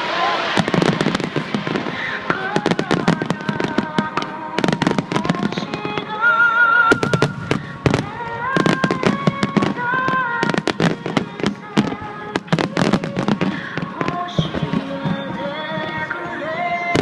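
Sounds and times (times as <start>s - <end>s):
fireworks bursting: 0.0s - 17.0s
music with long held notes: 0.0s - 17.0s.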